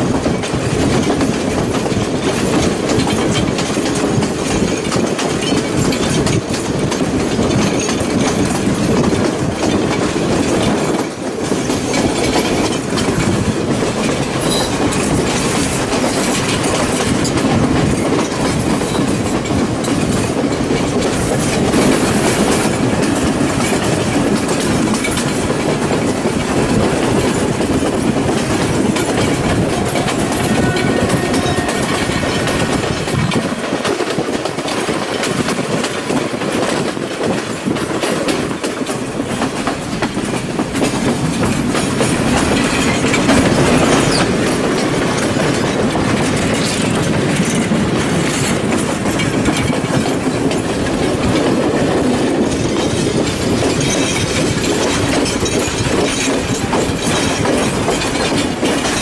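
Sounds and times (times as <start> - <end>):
train rumbling: 0.0 - 59.0
wheels clattering over rails: 0.2 - 59.0.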